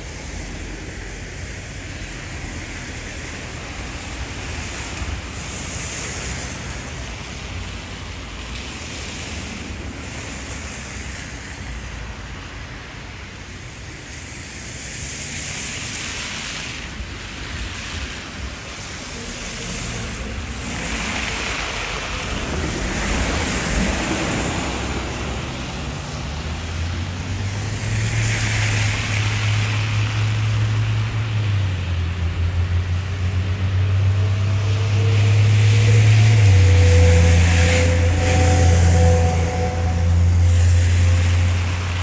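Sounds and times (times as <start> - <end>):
tyres hissing on snowy road: 0.0 - 42.0
vehicle engine hum: 0.0 - 42.0.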